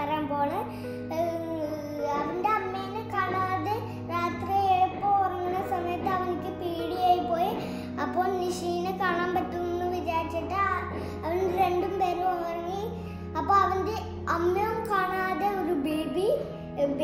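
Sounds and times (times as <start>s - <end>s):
backing music: 0.0s - 17.0s
child singing: 0.0s - 17.0s.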